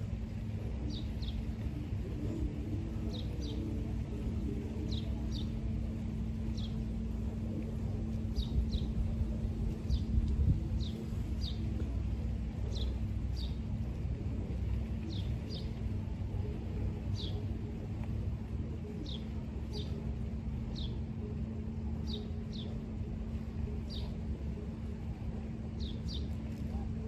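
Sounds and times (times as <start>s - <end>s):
low hum: 0.0s - 27.0s
low rumble: 0.0s - 27.0s.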